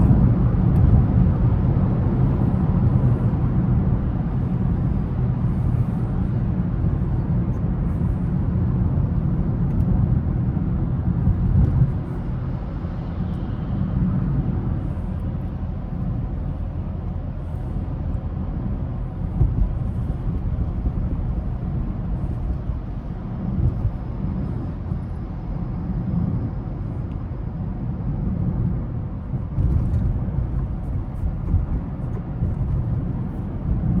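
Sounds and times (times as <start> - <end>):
car engine rumble: 0.0 - 34.0
tyre road noise: 0.0 - 34.0.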